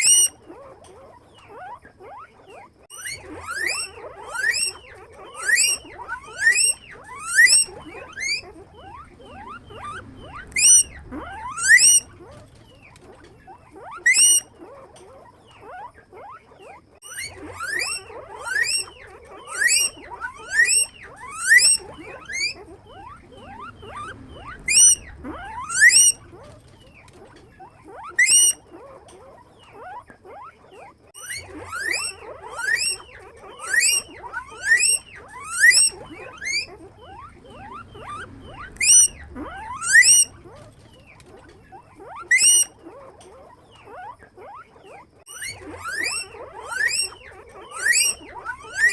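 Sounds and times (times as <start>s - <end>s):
guinea pig squeaking: 0.0s - 48.9s.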